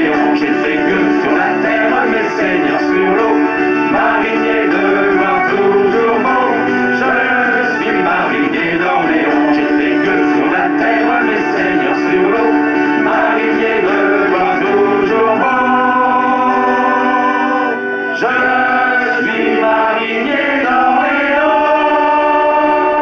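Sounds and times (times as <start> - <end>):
accordion: 0.0 - 23.0
folk group singing: 0.0 - 23.0
guitar: 0.0 - 23.0.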